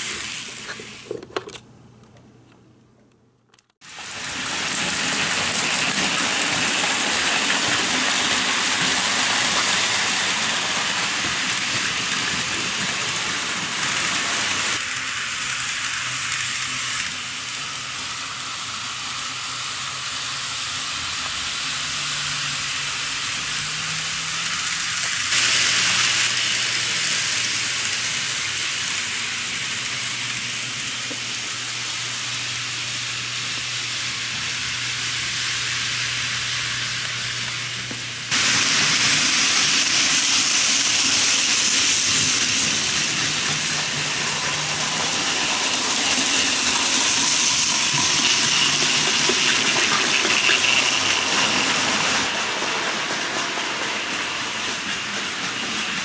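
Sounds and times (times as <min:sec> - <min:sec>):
toy train wheels rattling on rails: 0:03.8 - 0:56.0.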